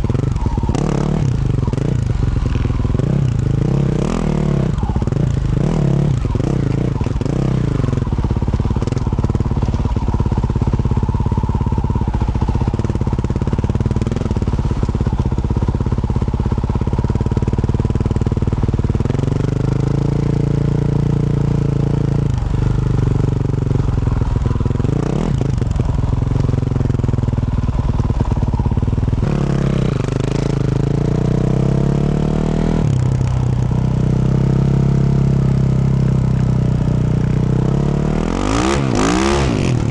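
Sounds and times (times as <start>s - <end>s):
motorcycle engine under load: 0.0s - 39.9s.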